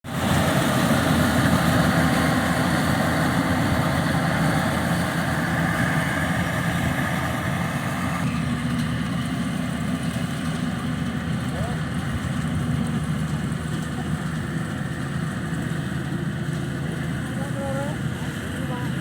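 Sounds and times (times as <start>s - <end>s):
harvester engine running: 0.0s - 19.0s.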